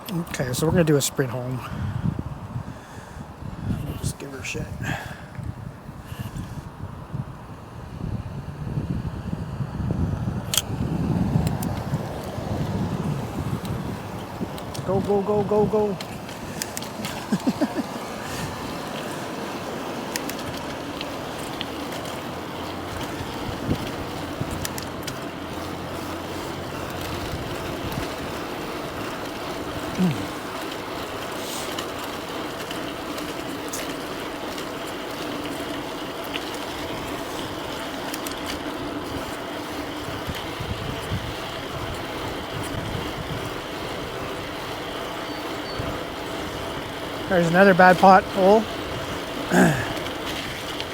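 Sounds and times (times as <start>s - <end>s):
wind rushing over microphone: 0.0s - 34.2s, 36.5s - 45.0s
tyre and road noise: 0.0s - 50.9s.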